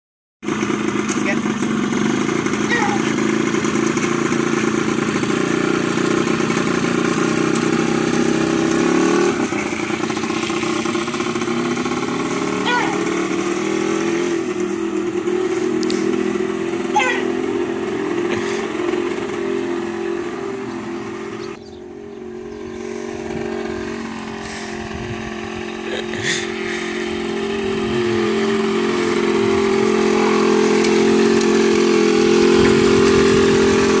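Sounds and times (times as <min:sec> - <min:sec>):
motorcycle engine pulling away: 0:00.4 - 0:34.0.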